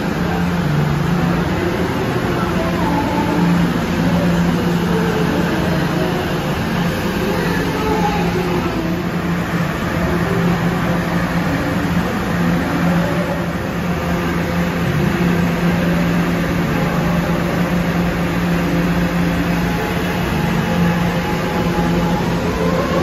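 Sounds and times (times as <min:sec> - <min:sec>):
station noise rumble: 0:00.0 - 0:23.0
subway car electrical hum: 0:00.0 - 0:23.0.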